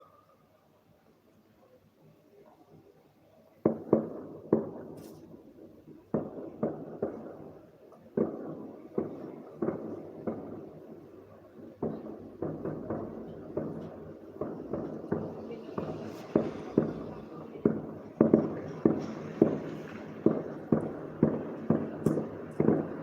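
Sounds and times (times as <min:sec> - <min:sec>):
fireworks muffled bangs: 0:03.6 - 0:23.0.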